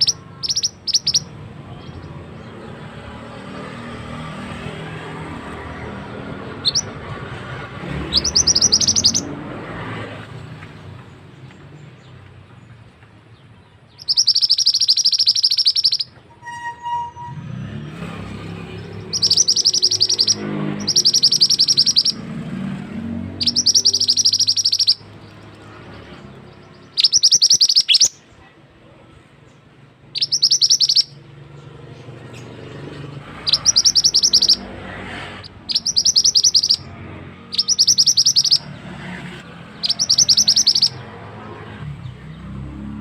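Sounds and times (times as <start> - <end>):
bird singing high fast trills: 0.0 - 10.2, 13.9 - 28.3, 30.0 - 41.2.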